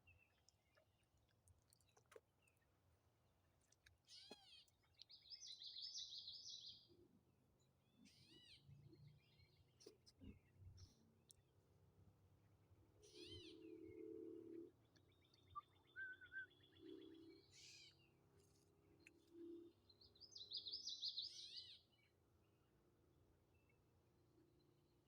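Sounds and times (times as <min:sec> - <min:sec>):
faint birdsong chirps and trills: 0:00.0 - 0:25.0.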